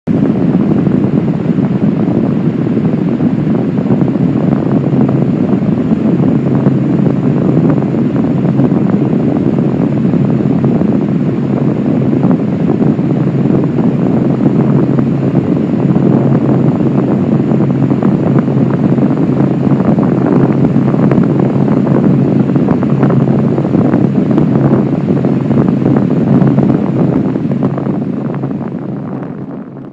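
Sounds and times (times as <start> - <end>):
crackling low ground rumble: 0.0 - 29.9.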